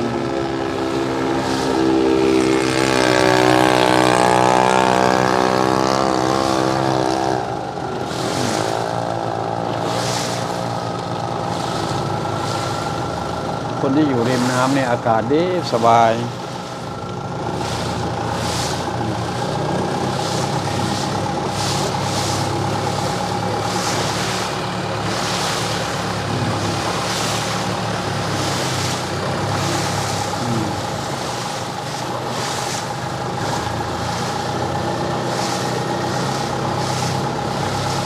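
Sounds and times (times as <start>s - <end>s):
boat engine running: 0.0s - 38.0s
steady whine: 0.0s - 38.0s
regular swishes: 0.6s - 15.1s, 15.7s - 38.0s.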